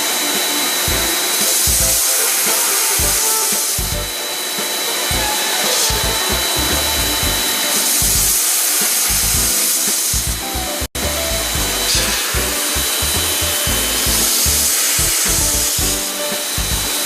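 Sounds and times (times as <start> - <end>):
background music with bass line: 0.0 - 2.2, 3.0 - 4.2, 5.1 - 8.4, 9.1 - 9.6, 10.2 - 17.0
cleaning robot motor hiss: 0.0 - 10.4, 11.6 - 17.0.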